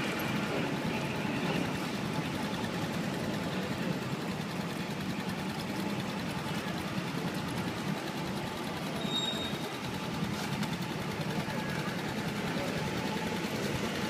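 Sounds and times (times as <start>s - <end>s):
motorcycle and car engines: 0.0s - 14.0s.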